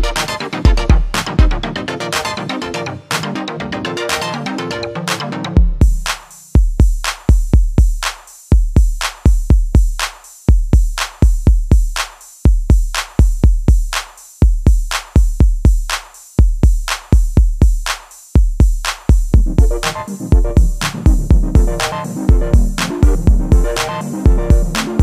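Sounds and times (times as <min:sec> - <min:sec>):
electronic drum machine beat: 0:00.0 - 0:25.0.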